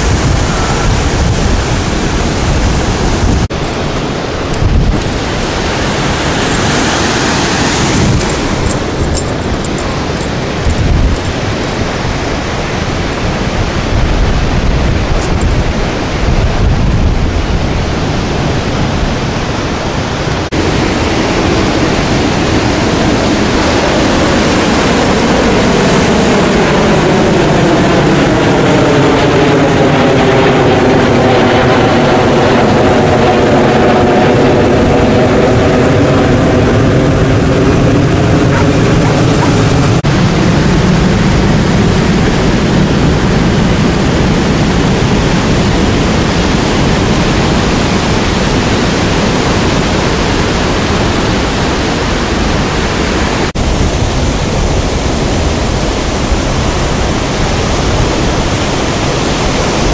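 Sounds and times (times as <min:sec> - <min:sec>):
jet aircraft passing overhead: 0:00.0 - 0:16.6, 0:17.2 - 0:59.9
ocean surf: 0:00.0 - 0:59.9
wind buffeting microphone: 0:00.0 - 0:59.9.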